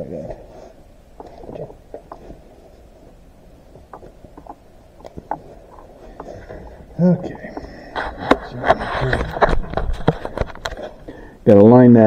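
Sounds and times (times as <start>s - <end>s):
low background rumble: 0.0s - 10.3s.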